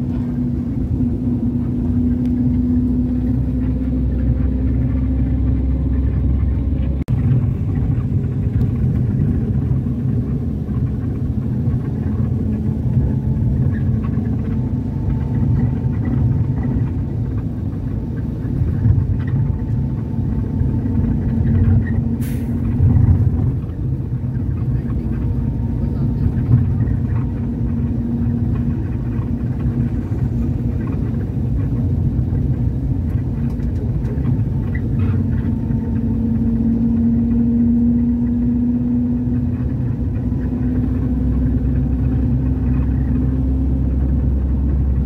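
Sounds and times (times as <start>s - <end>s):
vehicle engine and road rumble: 0.0s - 45.0s.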